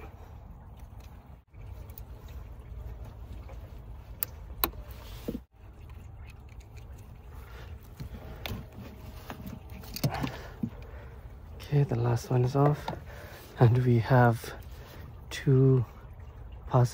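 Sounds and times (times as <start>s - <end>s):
low steady rumble: 0.0s - 16.9s.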